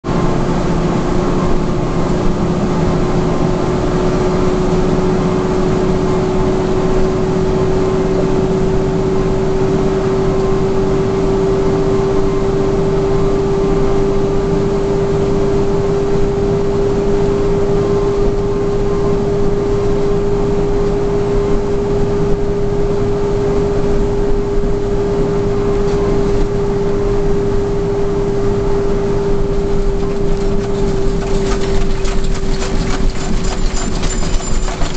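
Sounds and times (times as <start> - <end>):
truck engine and road drone: 0.0 - 34.9.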